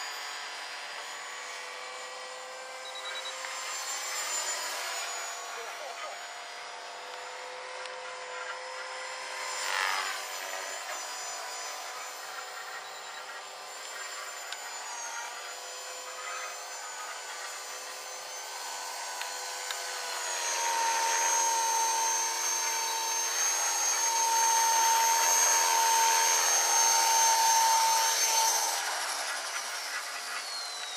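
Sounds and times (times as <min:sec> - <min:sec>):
model helicopter motor whine: 0:00.0 - 0:30.9.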